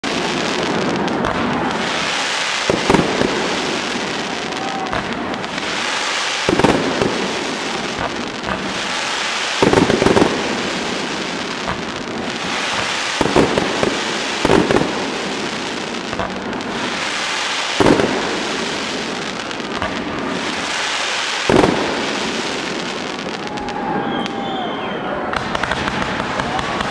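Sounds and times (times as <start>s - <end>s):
firework bangs: 0.0s - 26.9s
firework crackling hiss: 0.0s - 26.9s.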